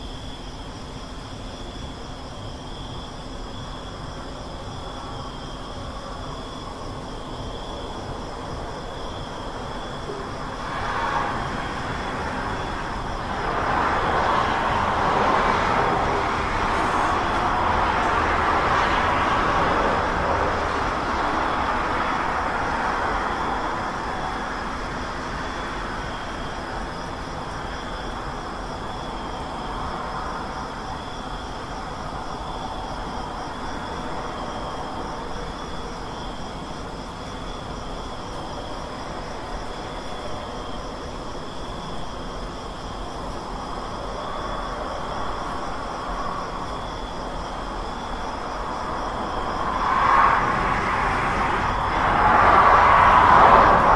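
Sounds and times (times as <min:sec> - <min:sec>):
passing road traffic: 0:04.2 - 0:53.9.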